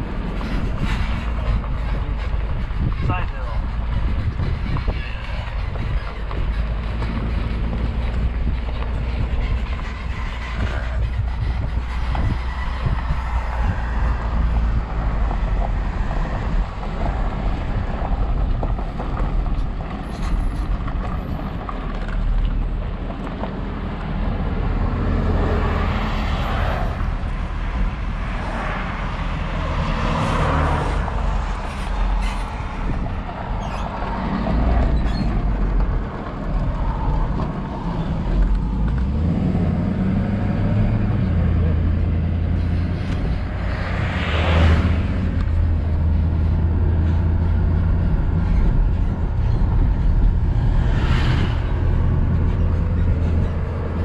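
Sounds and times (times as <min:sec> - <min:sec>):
road noise: 0:00.0 - 0:54.0
vehicle engine rumble: 0:00.0 - 0:54.0.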